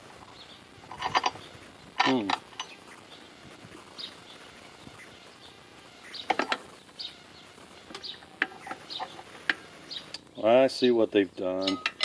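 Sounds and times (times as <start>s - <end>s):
faint bird chirps: 0.3s - 10.5s.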